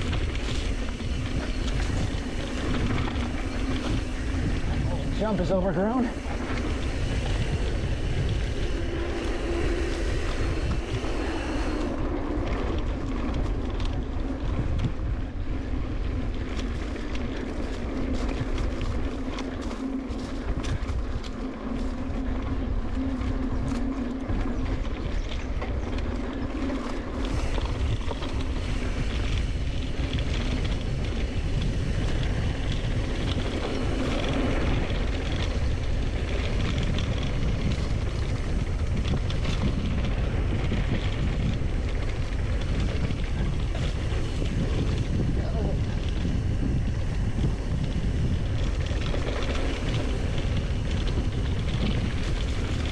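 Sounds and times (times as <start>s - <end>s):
bike rattling over bumps: 0.0s - 52.9s
tyres rolling on dirt: 0.0s - 52.9s
wind buffeting microphone: 0.0s - 52.9s.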